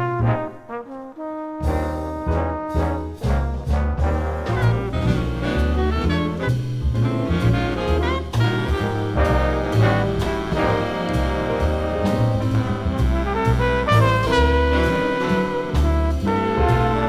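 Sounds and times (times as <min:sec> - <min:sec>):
brass and saxophone sections: 0:00.0 - 0:17.0
drums: 0:00.0 - 0:17.0
piano: 0:00.0 - 0:17.0
walking bass: 0:01.7 - 0:17.0.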